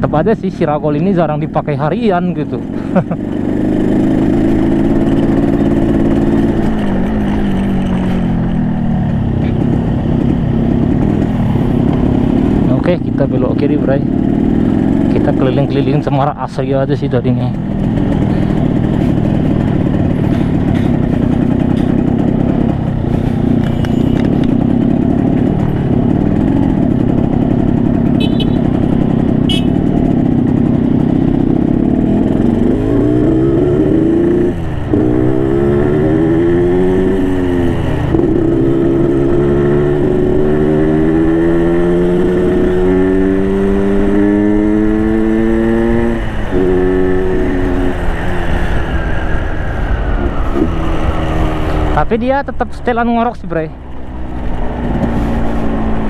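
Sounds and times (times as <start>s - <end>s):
motorcycle two-stroke engine: 0.2s - 56.0s.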